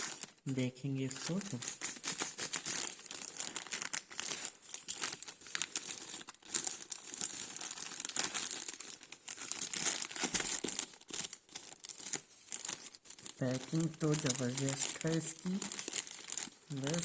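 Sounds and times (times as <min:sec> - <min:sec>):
packaging tearing: 0:00.0 - 0:00.4, 0:01.0 - 0:17.0
plastic packaging crinkling: 0:00.0 - 0:17.0.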